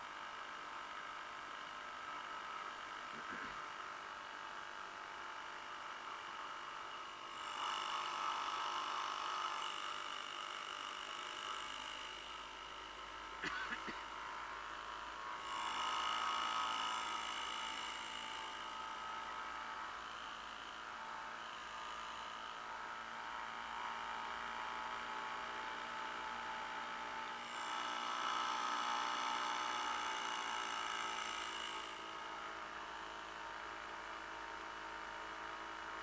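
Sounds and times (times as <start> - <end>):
outboard motor buzzing: 0.0 - 36.0.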